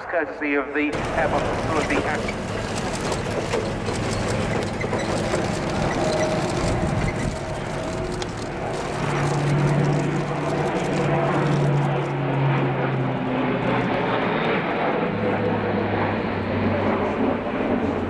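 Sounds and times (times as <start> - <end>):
propeller aircraft droning: 0.0 - 18.0.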